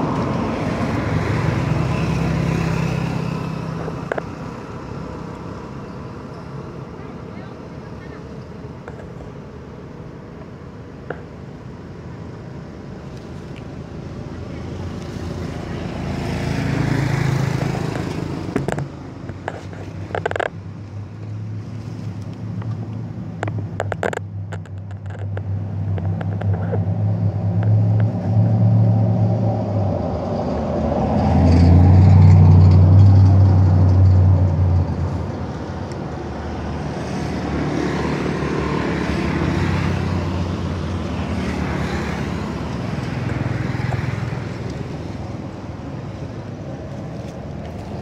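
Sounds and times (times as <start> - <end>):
vehicles passing on road: 0.0 - 48.0.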